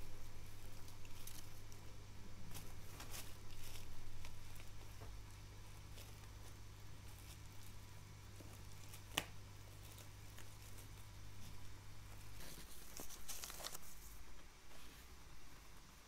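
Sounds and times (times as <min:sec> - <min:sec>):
bubble wrap crinkling: 0:00.0 - 0:14.9.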